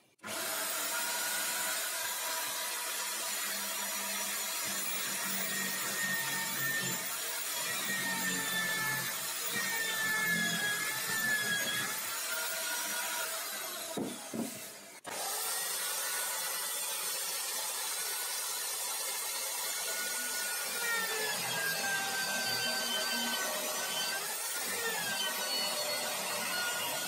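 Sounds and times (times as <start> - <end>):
electric drill boring into wood: 0.2 - 27.0.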